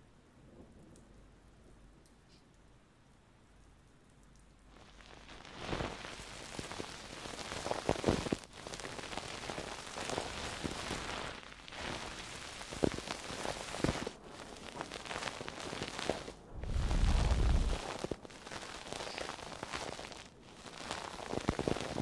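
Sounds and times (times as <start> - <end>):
close-miked crackling and scratching: 3.6 - 22.0.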